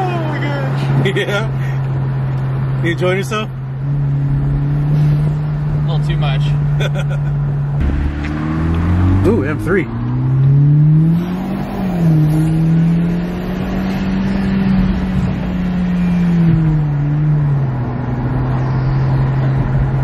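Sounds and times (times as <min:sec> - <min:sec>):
turbocharged car engine accelerating: 0:00.4 - 0:20.0.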